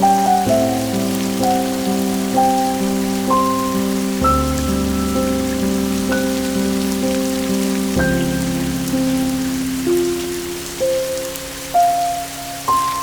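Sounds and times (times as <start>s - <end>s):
slow soft instrumental music: 0.0s - 13.0s
steady rain falling: 0.0s - 13.0s.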